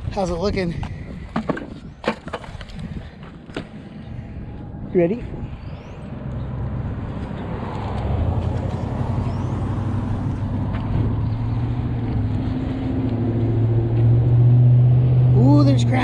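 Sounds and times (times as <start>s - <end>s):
rough low rumble: 0.0s - 16.0s
engine humming: 0.9s - 16.0s.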